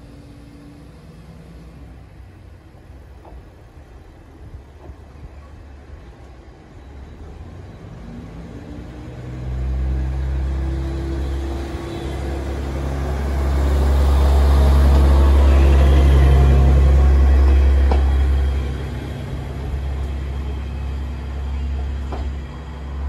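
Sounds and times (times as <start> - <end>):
diesel railcar engine drone: 0.0 - 23.0.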